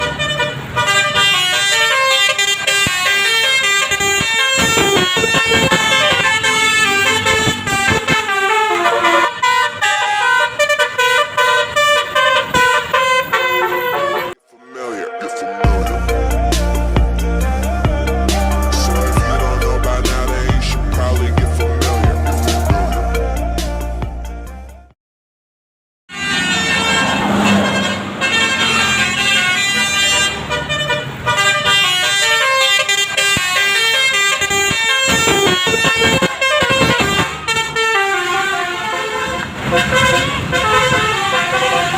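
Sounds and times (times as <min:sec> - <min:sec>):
musical bus horn melody: 0:00.0 - 0:25.0, 0:26.1 - 0:41.9.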